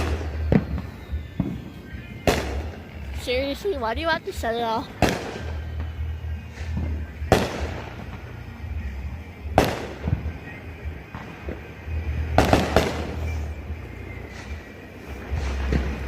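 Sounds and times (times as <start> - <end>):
fireworks and firecrackers banging: 0.0 - 16.0.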